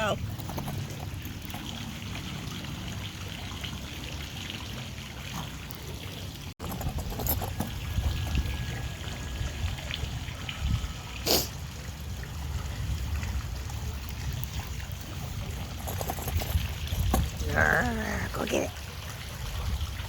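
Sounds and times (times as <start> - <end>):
water trickling: 0.0 - 20.0.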